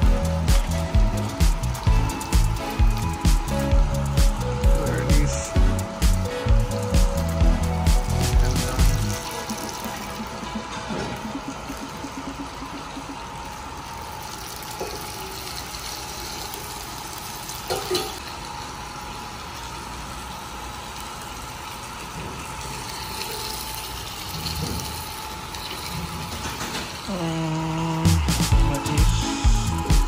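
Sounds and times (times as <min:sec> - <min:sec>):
food sizzling: 0:00.0 - 0:30.0.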